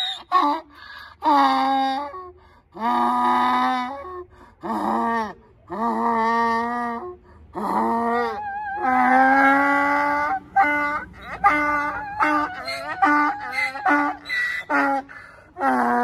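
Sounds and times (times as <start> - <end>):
donkey braying: 0.0 - 16.0.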